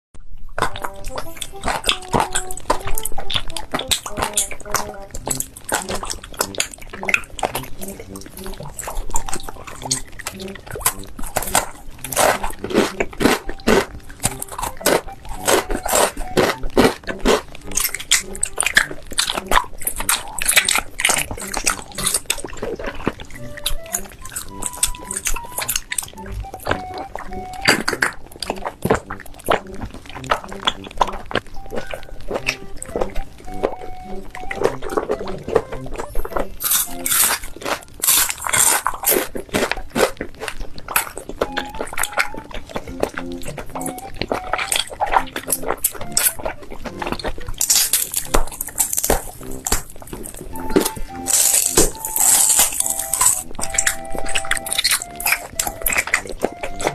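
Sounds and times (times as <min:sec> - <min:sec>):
person crunching and chewing food: 0:00.3 - 0:56.9.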